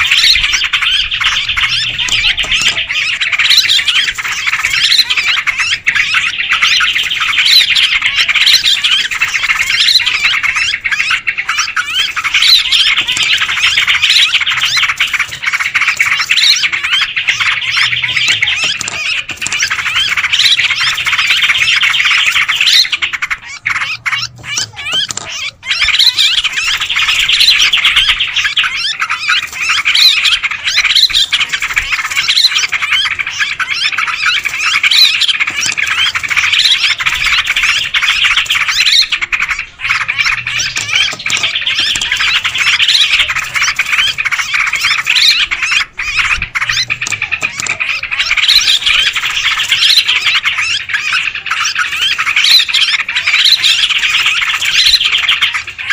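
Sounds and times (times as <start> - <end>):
birds chirping and chattering: 0.0 - 55.9.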